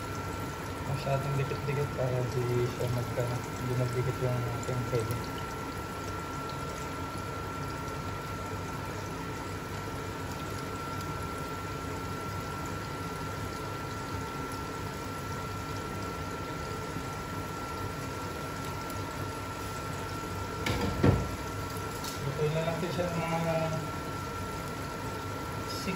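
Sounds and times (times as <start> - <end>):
fish deep-frying in oil: 0.0 - 25.9.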